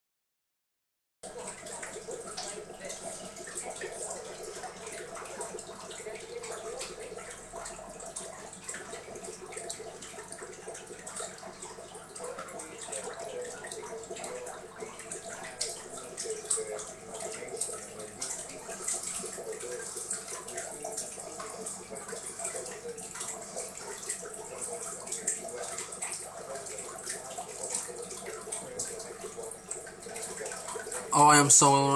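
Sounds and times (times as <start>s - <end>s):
aquarium water splashing and bubbling: 1.2s - 31.9s
small crackling drips and pops: 1.3s - 31.9s.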